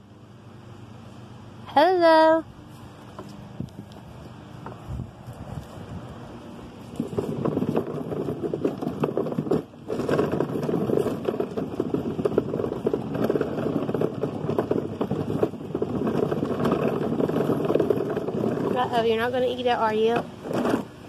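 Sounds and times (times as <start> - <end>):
plastic wheels rolling on concrete: 2.7 - 21.0.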